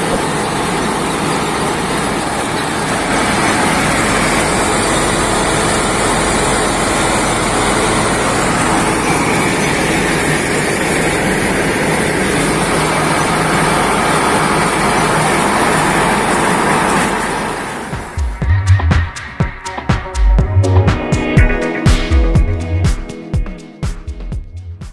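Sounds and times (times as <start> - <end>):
thresher machine running: 0.0 - 23.8.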